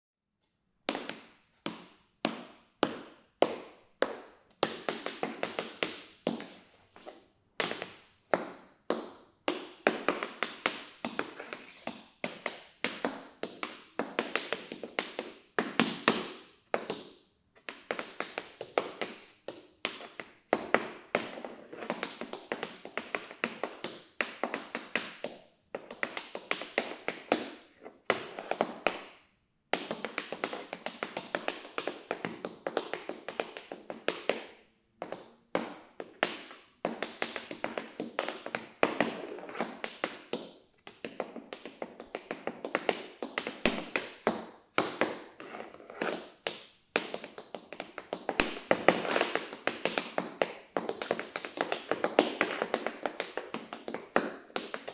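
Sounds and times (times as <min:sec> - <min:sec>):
tap shoes clicking on floor: 0:00.9 - 0:29.1, 0:29.7 - 0:54.9.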